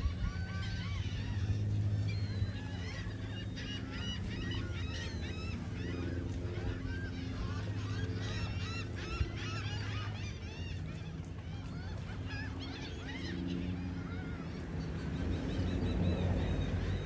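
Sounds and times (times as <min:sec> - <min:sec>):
seagulls calling: 0:00.0 - 0:17.0
steady low hum: 0:00.0 - 0:17.0.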